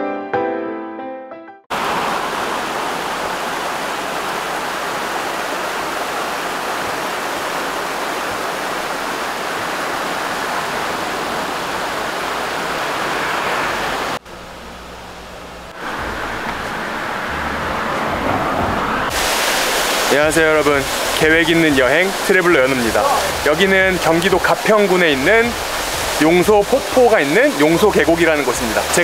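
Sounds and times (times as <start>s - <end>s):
stream rushing over rocks: 1.7s - 14.2s, 15.7s - 29.0s.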